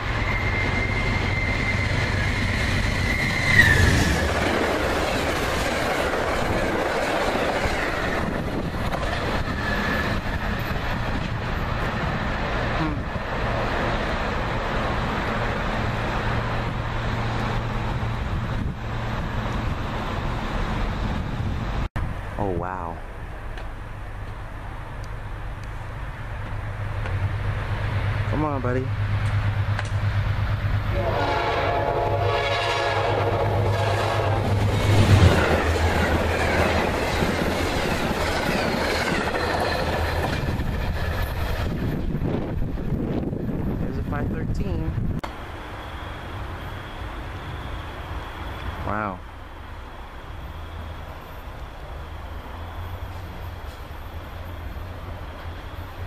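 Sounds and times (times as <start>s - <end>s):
locomotive engine hum: 0.0s - 56.0s
passenger train passing: 0.0s - 56.0s.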